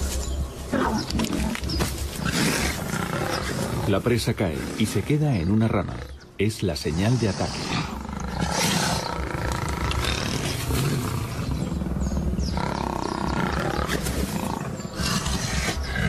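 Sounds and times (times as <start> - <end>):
lions growling and snarling: 0.6 - 16.0.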